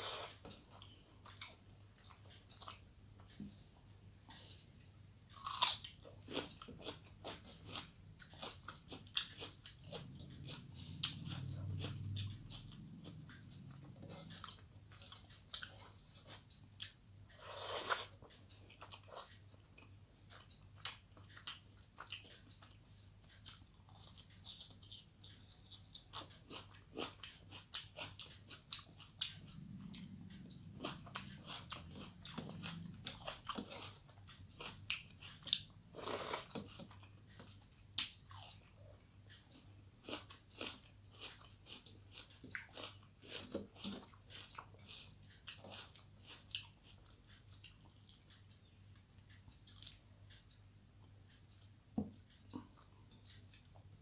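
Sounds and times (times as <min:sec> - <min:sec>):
person chewing: 0:00.0 - 0:03.6, 0:04.3 - 0:54.0.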